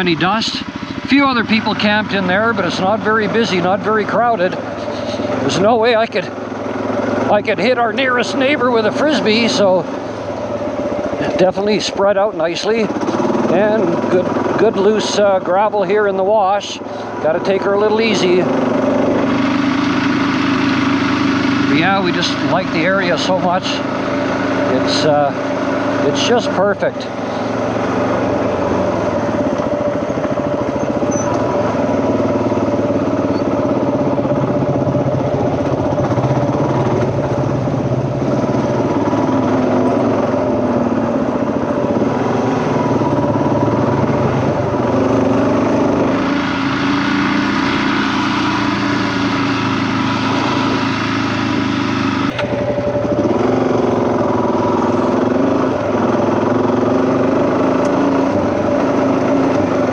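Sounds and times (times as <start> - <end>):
off-road vehicle engine running: 0.0 - 59.9
tires on loose gravel: 0.0 - 59.9.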